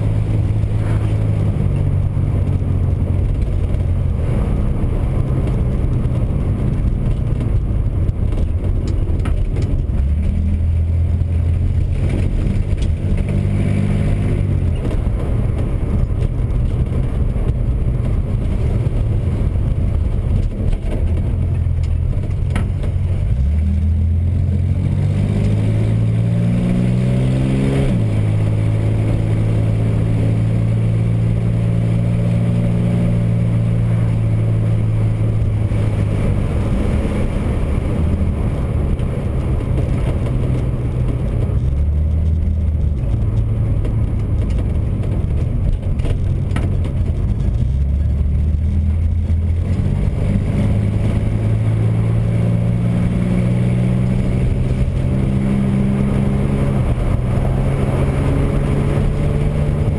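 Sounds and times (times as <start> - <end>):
car engine while driving: 0.0 - 59.9.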